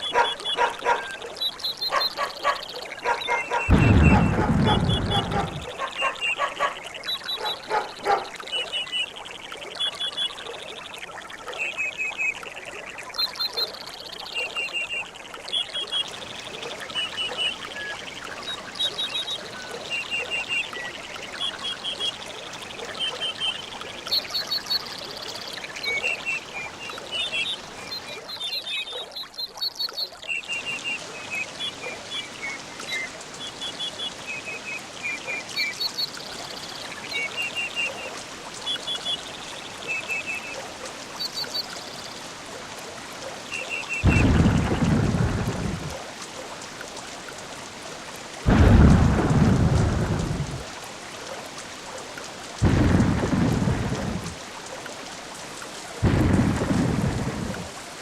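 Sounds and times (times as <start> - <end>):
trickle of running water: 0.0 - 58.0.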